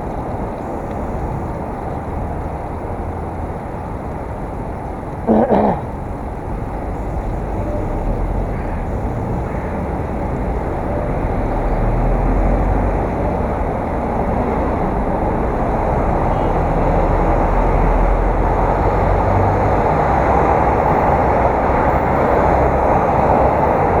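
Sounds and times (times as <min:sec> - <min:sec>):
road rumble: 0:00.0 - 0:24.0.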